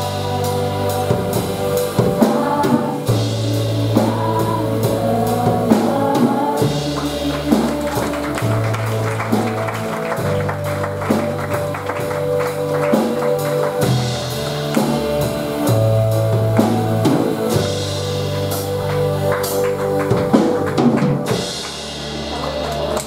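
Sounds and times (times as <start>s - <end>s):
drum kit beat: 0.0s - 23.0s
guitar: 0.0s - 23.0s
held keyboard chords: 0.0s - 23.0s
low bass line: 0.0s - 23.0s.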